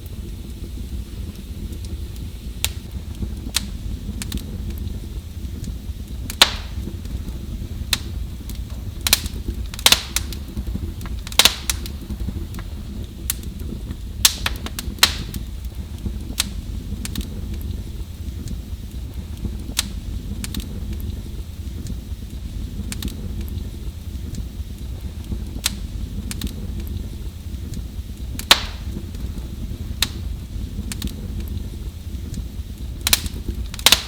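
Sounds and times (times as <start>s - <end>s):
low rumble of fire: 0.0s - 34.0s
wood fire pops and snaps: 0.0s - 34.0s.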